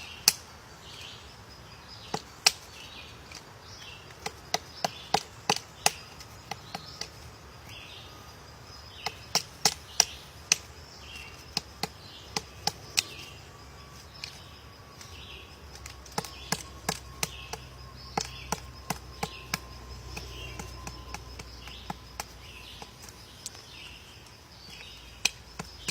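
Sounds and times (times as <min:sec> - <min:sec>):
woodpecker pecking at wood: 0:02.0 - 0:07.8, 0:08.8 - 0:25.9.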